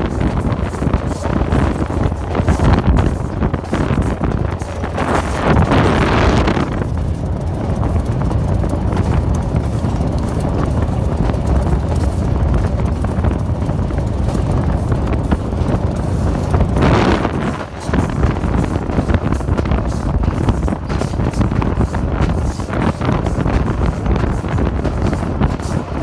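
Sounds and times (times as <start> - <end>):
locomotive engine and wheels rumbling: 0.0 - 26.0
wind buffeting microphone: 0.0 - 26.0.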